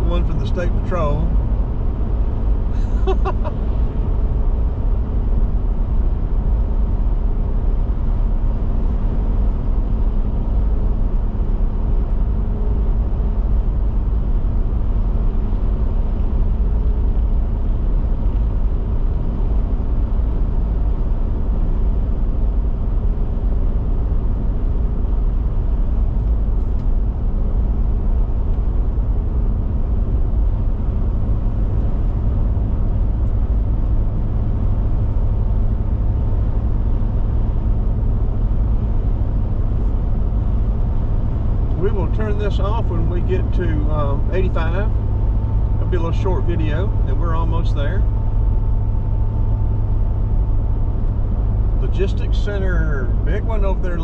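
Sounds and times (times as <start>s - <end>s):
car road noise from inside: 0.0s - 54.0s.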